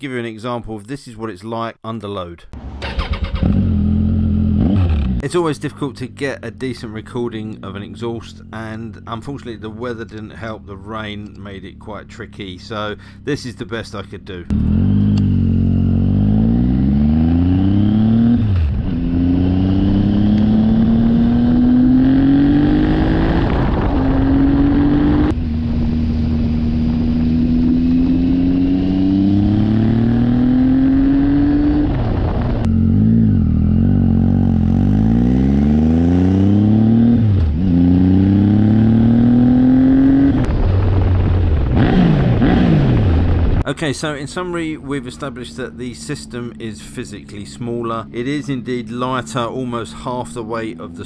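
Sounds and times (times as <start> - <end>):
motorcycle engine accelerating: 2.6 - 43.7, 44.3 - 51.0.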